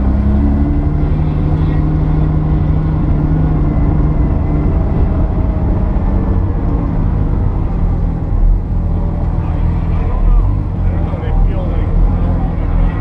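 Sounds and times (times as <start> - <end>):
car engine at speed: 0.0 - 13.0
road and wind rumble: 0.0 - 13.0.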